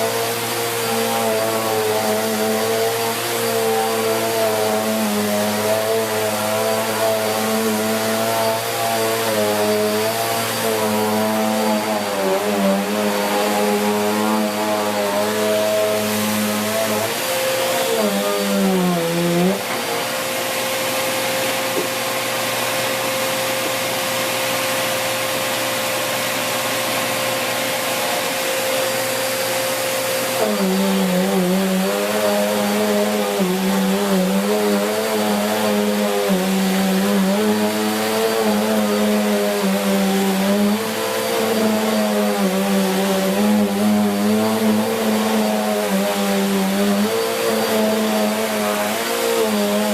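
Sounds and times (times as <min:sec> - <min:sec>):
vacuum cleaner on carpet: 0:00.0 - 0:49.9.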